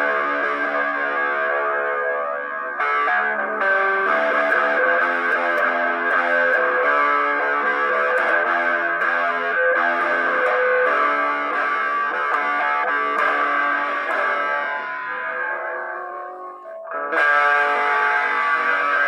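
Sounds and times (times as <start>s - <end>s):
plucked guitar chords: 0.0s - 19.0s.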